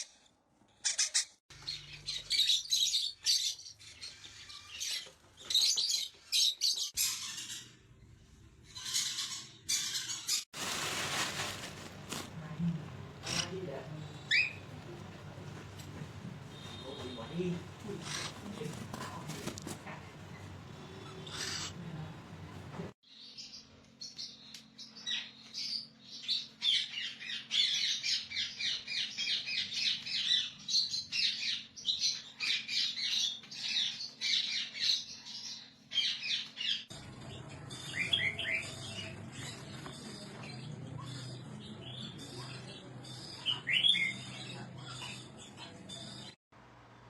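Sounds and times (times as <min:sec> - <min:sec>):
parrots chirping and squawking: 0:00.0 - 0:10.5, 0:13.0 - 0:15.9, 0:16.5 - 0:22.7, 0:26.7 - 0:46.3.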